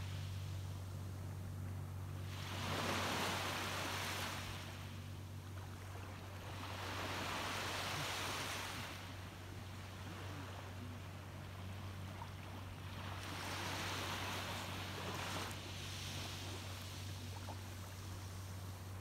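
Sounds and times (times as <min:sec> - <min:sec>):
steady low hum: 0:00.0 - 0:19.0
small waves washing on shore: 0:02.1 - 0:19.0.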